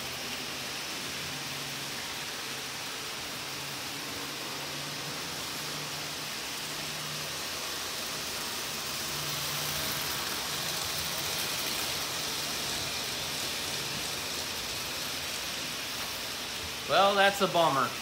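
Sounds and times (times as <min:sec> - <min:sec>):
toy train wheels and motor: 0:00.0 - 0:18.0.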